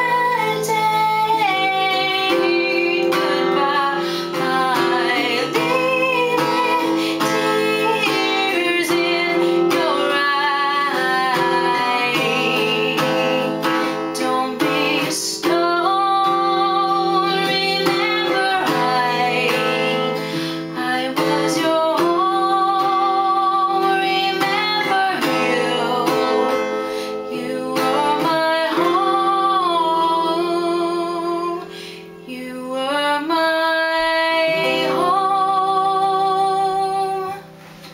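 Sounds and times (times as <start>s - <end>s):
woman singing: 0.0s - 37.5s
acoustic guitar: 0.0s - 37.9s.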